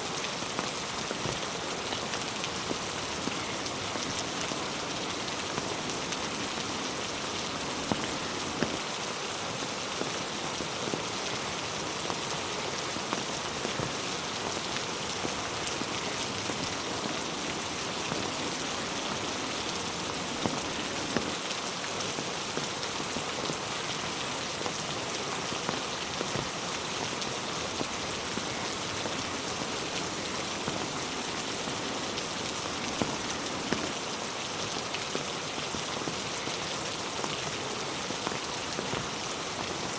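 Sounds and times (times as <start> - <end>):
heavy rain on road and trees: 0.0 - 39.9.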